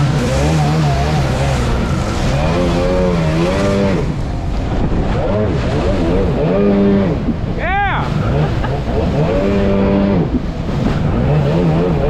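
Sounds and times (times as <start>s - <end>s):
jet ski engine revving: 0.0s - 12.0s
water rushing: 0.0s - 12.0s.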